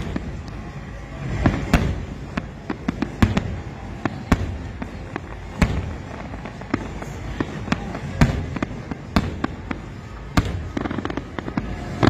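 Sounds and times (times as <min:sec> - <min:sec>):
fireworks exploding: 0:00.0 - 0:12.0
small firework cracks: 0:01.3 - 0:12.0.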